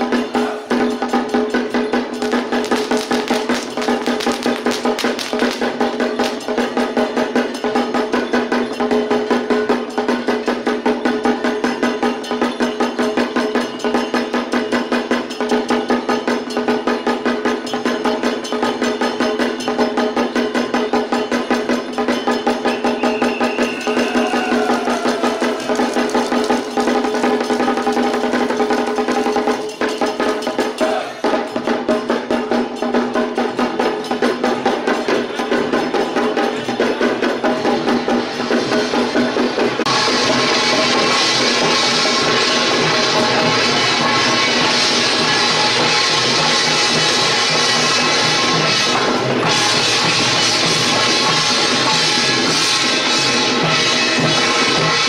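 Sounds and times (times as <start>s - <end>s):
drum beaten in fast rhythm: 0.0s - 55.0s
metal percussion: 0.0s - 55.0s.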